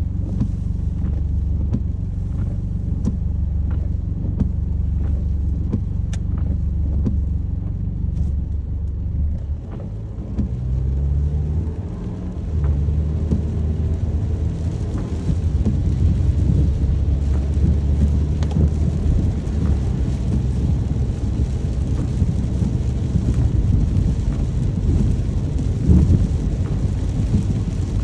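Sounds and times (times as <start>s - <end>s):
deep rain rumble: 0.0s - 28.0s
raindrops ticking: 0.0s - 28.0s.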